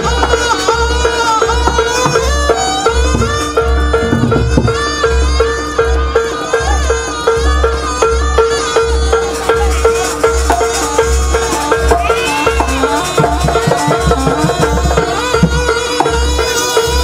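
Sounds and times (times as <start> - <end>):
wavering melody: 0.0 - 17.0.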